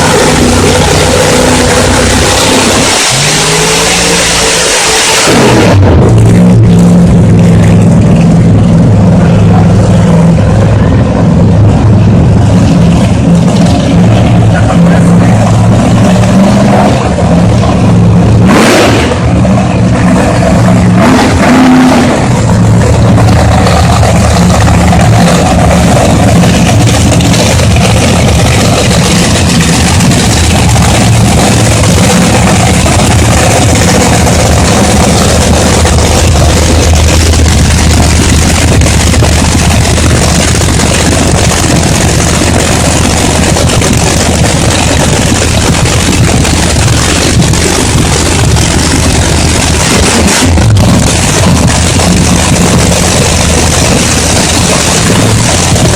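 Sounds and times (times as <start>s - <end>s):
vehicle engine revving: 0.0s - 55.9s
wide rushing noise: 0.0s - 55.9s.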